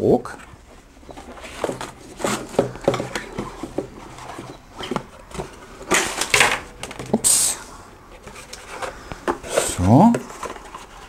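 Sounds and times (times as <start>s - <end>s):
cardboard packaging rustling: 0.4s - 7.5s, 8.1s - 11.0s.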